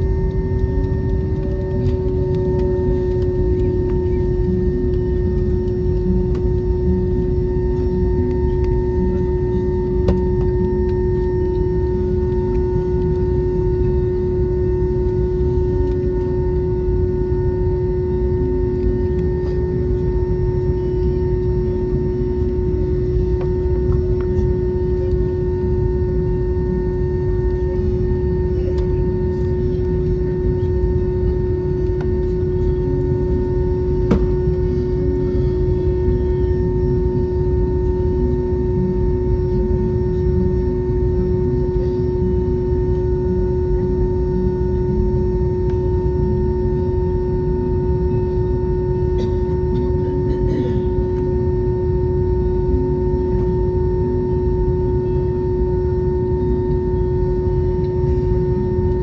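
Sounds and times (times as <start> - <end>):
constant cabin hum: 0.0 - 59.0
jet engines idling rumble: 0.0 - 59.0.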